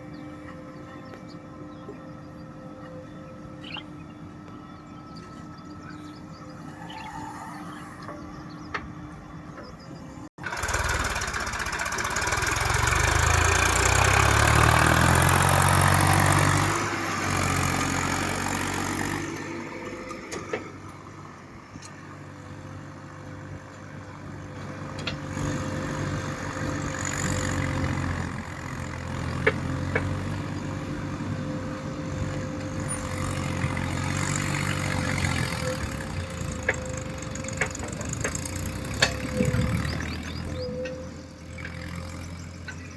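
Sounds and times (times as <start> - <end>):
tractor engine running: 8.0 - 42.9.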